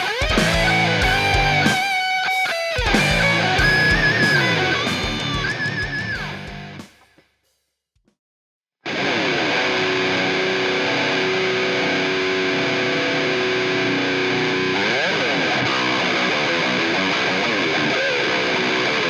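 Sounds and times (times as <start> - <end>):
distorted electric guitar: 0.0 - 6.9, 8.9 - 19.0.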